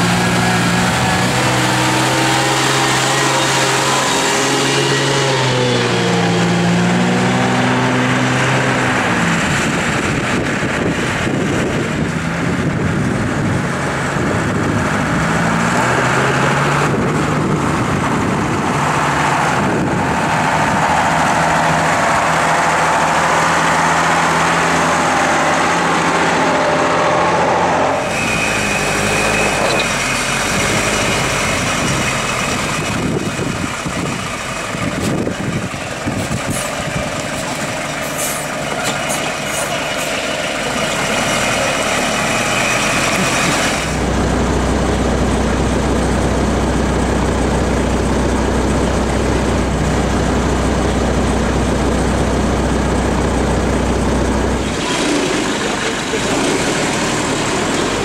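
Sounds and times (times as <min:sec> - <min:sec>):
diesel engines running under load: 0:00.0 - 0:58.0.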